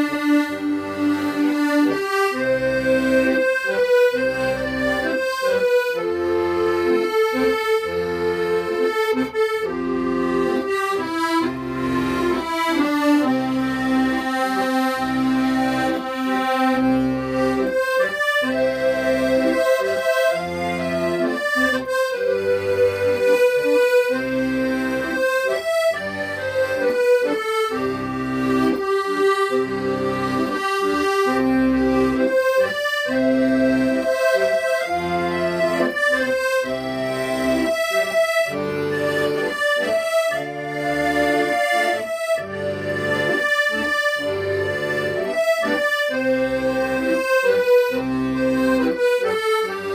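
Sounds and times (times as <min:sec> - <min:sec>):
accordion playing slow melody: 0:00.0 - 0:49.9.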